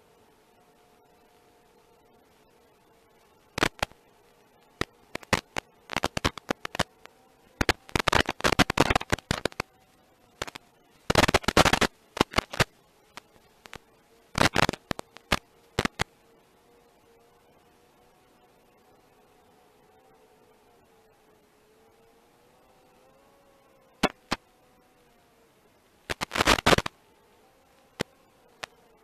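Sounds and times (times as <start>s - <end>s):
crackling static and pops: 0.0s - 29.0s
faint electronic hum: 0.0s - 29.0s.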